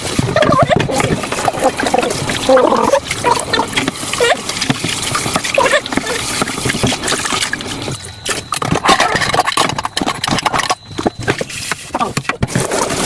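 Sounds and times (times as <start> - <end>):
wet chewing and mouth noises: 0.0 - 13.0.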